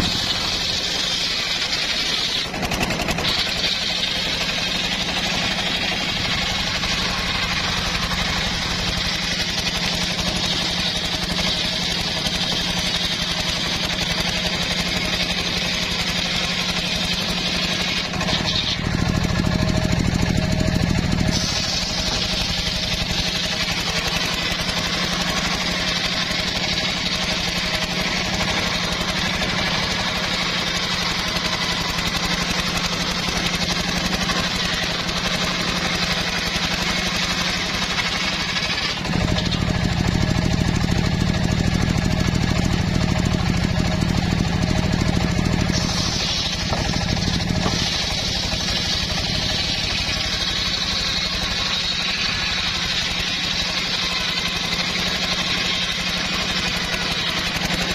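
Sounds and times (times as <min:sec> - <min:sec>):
saw blade cutting wood: 0:00.0 - 0:57.9
saw motor running: 0:00.0 - 0:57.9.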